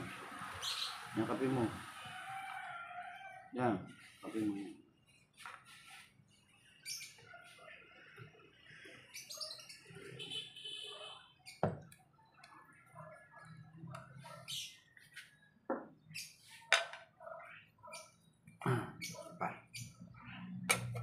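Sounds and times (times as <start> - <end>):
birds chirping and squawking: 0.3 - 21.0.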